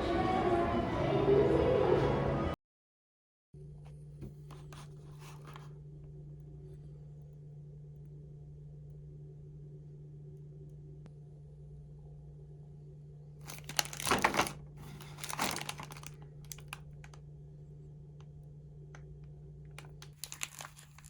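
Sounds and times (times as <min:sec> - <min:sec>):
low electrical hum: 0:03.6 - 0:21.0.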